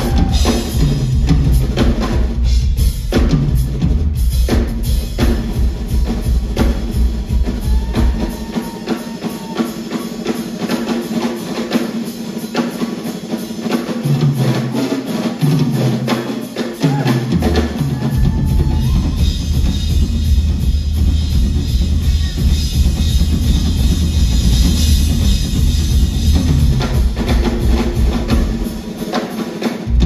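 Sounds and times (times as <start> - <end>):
drum kit solo: 0.0 - 30.0.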